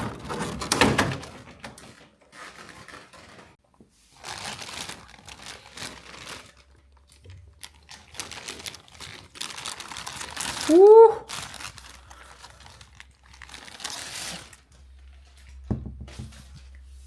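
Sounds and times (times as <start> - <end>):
plastic packaging crinkling: 1.1 - 15.6.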